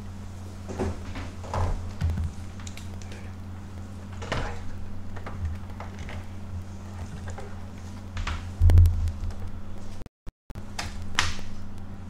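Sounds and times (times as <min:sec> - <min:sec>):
low electrical hum: 0:00.0 - 0:10.0, 0:10.6 - 0:12.0.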